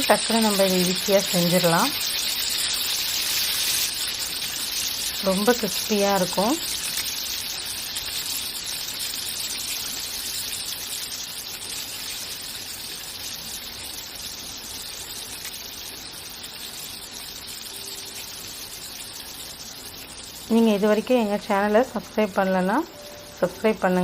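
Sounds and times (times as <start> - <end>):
fritters sizzling in hot oil: 0.0 - 24.0.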